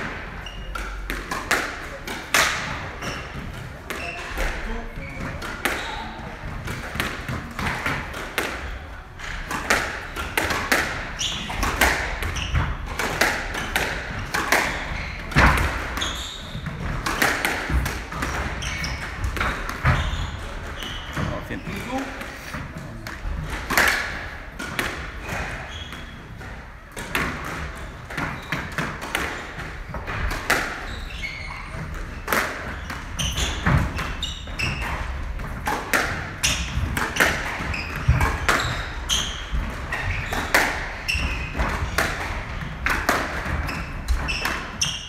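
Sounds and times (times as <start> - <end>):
squash ball hitting rackets and walls: 0.0 - 45.0.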